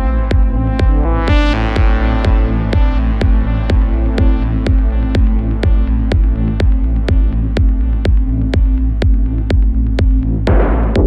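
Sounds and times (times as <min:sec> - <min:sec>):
deep synth bass: 0:00.0 - 0:11.0
held synth chords: 0:00.0 - 0:11.0
steady techno beat: 0:00.0 - 0:11.0.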